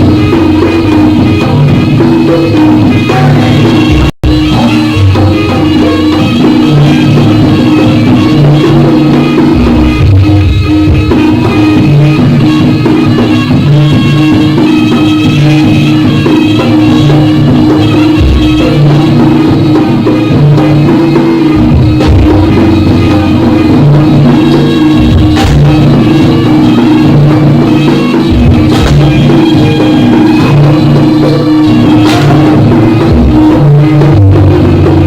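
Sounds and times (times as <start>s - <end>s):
drums: 0.0s - 35.0s
sustained melodic instruments: 0.0s - 35.0s.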